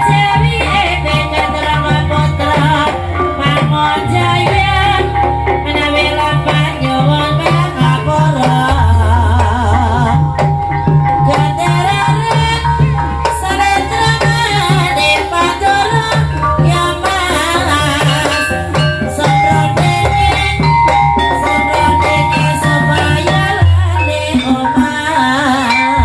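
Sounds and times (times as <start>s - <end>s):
drums beating steady rhythm: 0.0s - 26.0s
melodic instruments: 0.0s - 26.0s.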